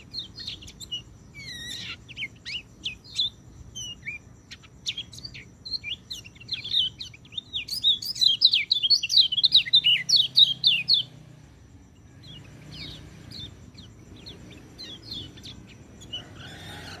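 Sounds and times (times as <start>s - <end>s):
thrush singing whistled notes: 0.0s - 17.0s.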